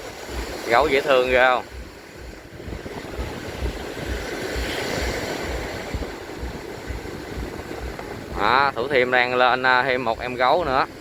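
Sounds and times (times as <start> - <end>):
sea surf rushing: 0.0 - 11.0
wind buffeting microphone: 0.0 - 11.0.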